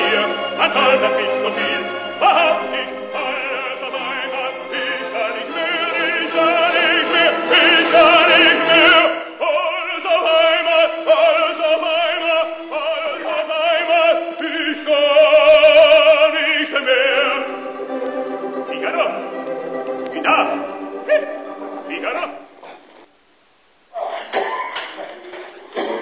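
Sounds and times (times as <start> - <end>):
operatic singing: 0.0 - 22.5.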